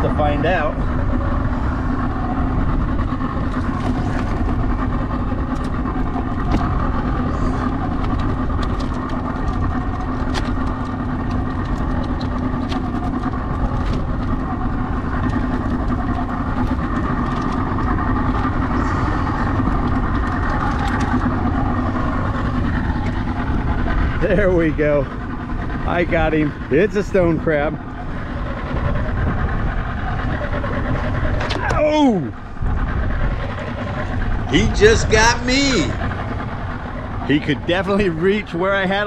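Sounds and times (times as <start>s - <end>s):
outboard motor idling: 0.0s - 39.0s.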